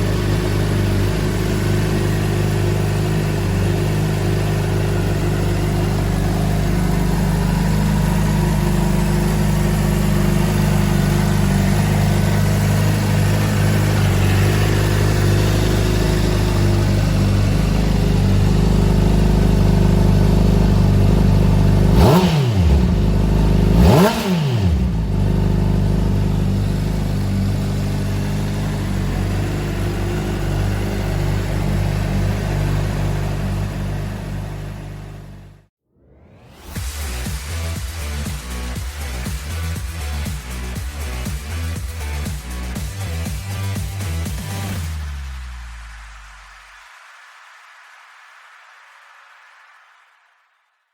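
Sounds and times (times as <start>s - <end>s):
motorcycle engine idling and revving: 0.0s - 35.7s, 36.6s - 46.5s.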